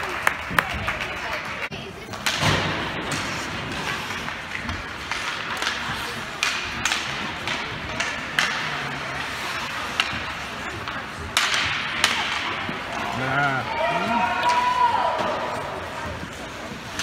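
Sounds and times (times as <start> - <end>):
murmur of spectators: 0.0 - 17.0.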